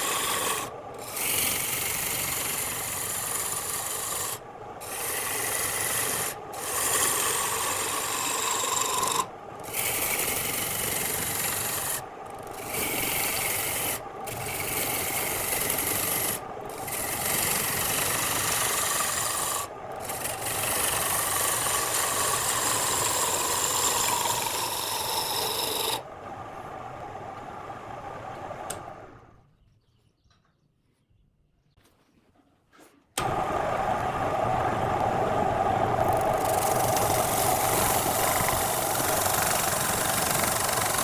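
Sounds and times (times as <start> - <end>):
turning tool scraping wood on lathe: 0.0 - 29.2, 33.2 - 41.0.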